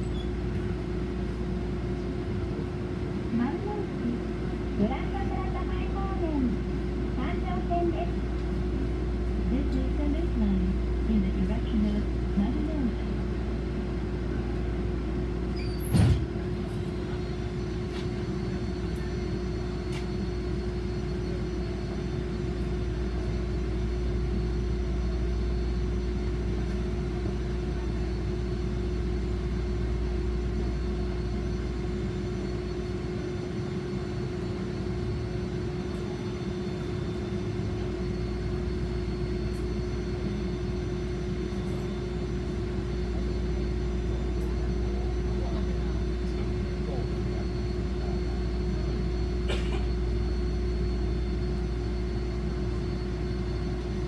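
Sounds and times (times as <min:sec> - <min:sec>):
streetcar interior hum: 0:00.0 - 0:54.0.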